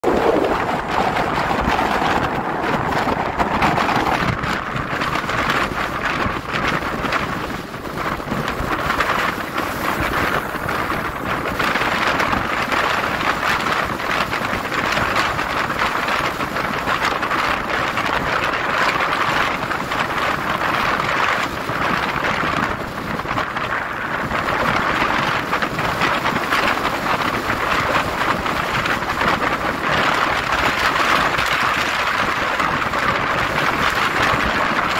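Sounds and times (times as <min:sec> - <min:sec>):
wind noise on microphone: 0:00.0 - 0:34.9.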